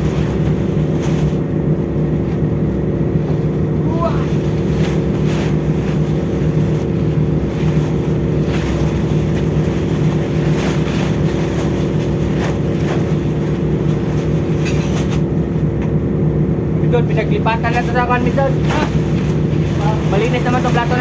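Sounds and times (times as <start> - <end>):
ship engines droning: 0.0 - 21.0.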